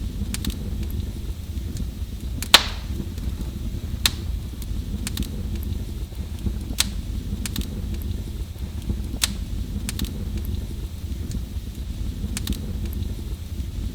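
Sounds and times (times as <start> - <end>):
wood fire crackling and popping: 0.0 - 13.9.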